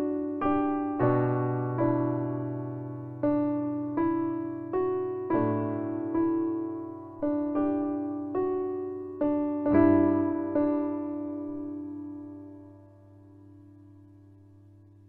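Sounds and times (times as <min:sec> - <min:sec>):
slow electric piano music: 0:00.0 - 0:15.0.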